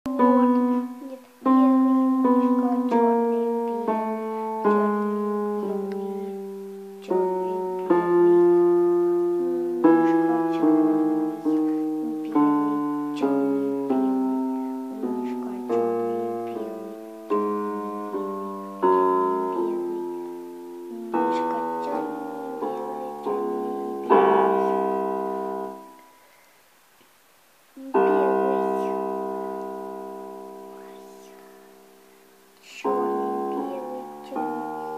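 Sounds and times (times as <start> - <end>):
electronic keyboard piano notes: 0.0 - 26.3, 27.8 - 34.9.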